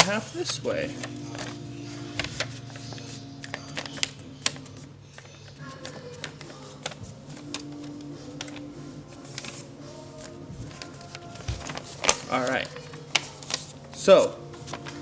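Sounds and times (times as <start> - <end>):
paper being folded and creased: 0.0 - 15.0.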